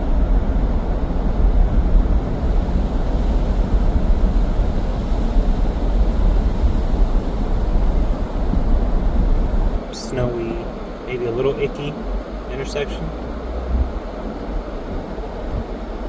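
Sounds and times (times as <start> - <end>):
car tyres and engine rumble: 0.0 - 16.0.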